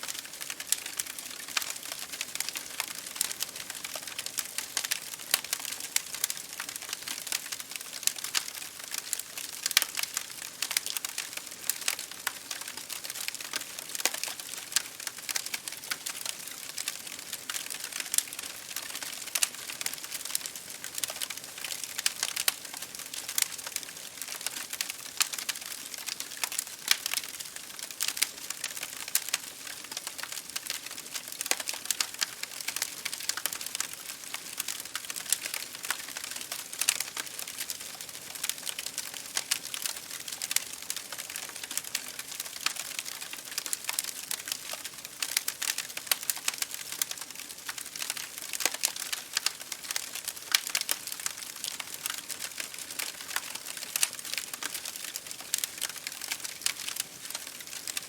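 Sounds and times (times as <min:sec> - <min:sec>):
rain on a window pane: 0:00.0 - 0:58.0
wood fire crackling: 0:00.0 - 0:58.0.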